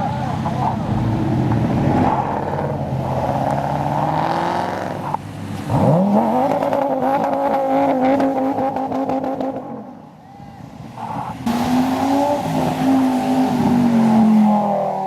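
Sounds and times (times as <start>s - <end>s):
car engine revving: 0.0s - 9.9s, 11.1s - 15.0s.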